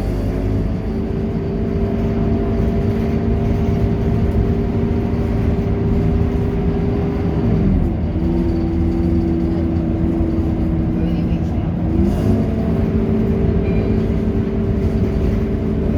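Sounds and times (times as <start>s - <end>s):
bus diesel engine drone: 0.0s - 15.9s.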